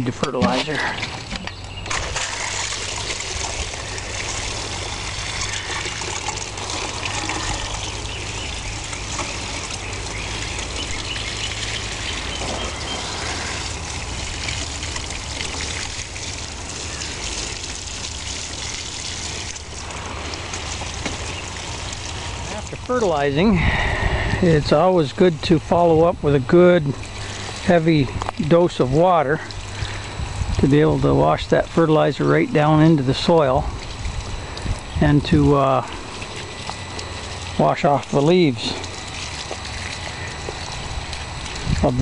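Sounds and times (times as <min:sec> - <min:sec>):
watering can splashing trickle: 0:00.6 - 0:23.5, 0:26.5 - 0:42.0.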